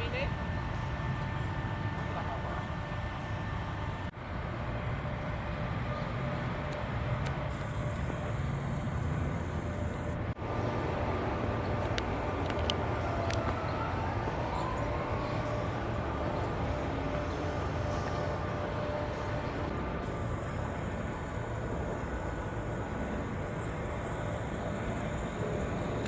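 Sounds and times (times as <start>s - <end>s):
low rumble of road traffic: 0.0s - 26.0s.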